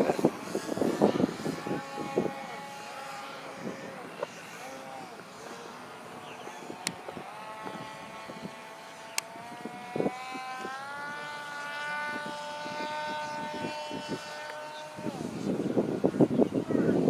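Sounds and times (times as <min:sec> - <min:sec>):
model plane motor whine: 0:00.0 - 0:17.0
wind buffeting microphone: 0:00.0 - 0:17.0.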